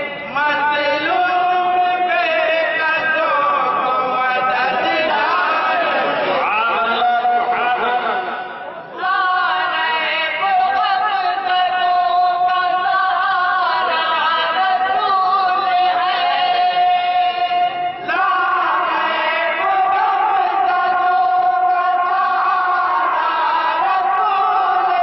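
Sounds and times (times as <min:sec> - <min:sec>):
men singing in chorus: 0:00.0 - 0:25.0.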